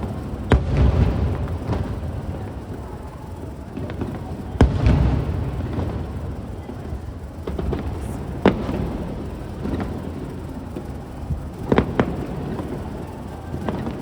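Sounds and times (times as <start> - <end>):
faint fireworks pops: 0.0 - 14.0
fireworks bangs: 0.0 - 14.0.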